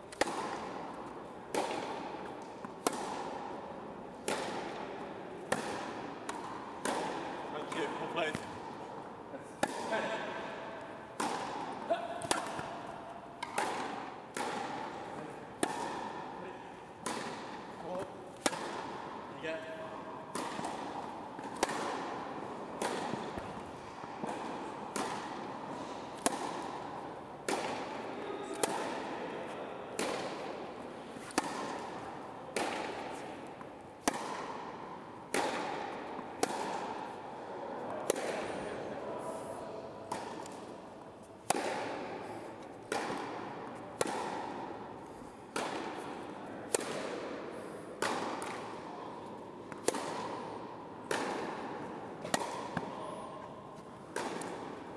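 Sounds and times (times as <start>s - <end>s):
tennis ball bouncing on court: 0.1s - 38.9s, 40.0s - 54.9s
tennis ball struck by rackets: 0.1s - 54.9s.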